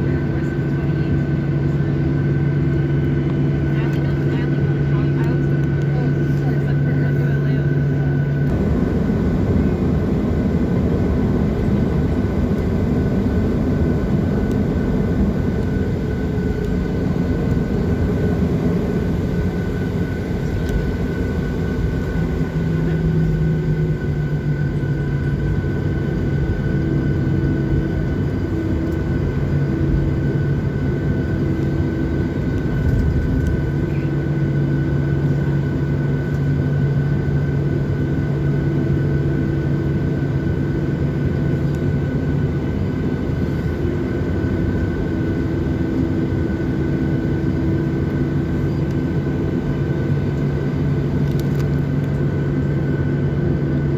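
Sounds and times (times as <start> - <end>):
high engine whine: 0.0 - 53.9
jet engine cabin rumble: 0.0 - 53.9.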